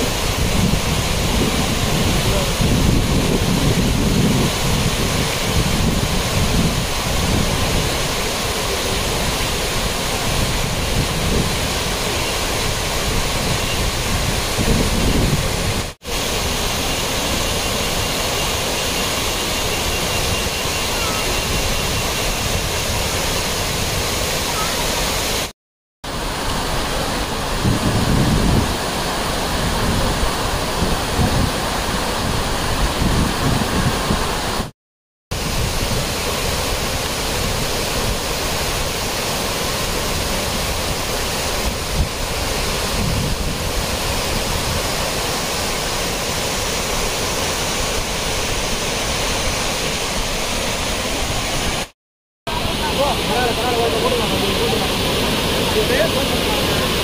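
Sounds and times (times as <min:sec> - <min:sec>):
waterfall rushing: 0:00.0 - 0:25.5, 0:26.1 - 0:34.7, 0:35.3 - 0:51.9, 0:52.5 - 0:57.0.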